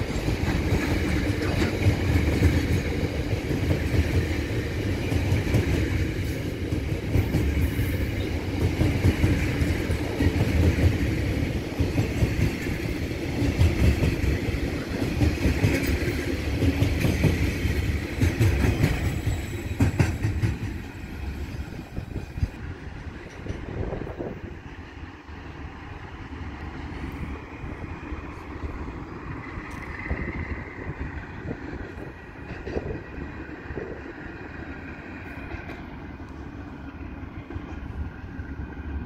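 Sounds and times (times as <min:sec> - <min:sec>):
wheels clicking over rail joints: 0:00.0 - 0:25.0, 0:25.8 - 0:34.0
wheels rumbling on rail: 0:00.0 - 0:39.0.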